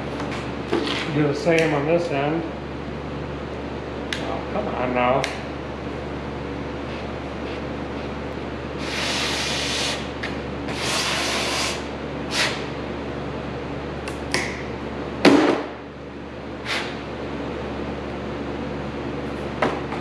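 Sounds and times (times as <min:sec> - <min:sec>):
steady shop hum: 0:00.0 - 0:20.0.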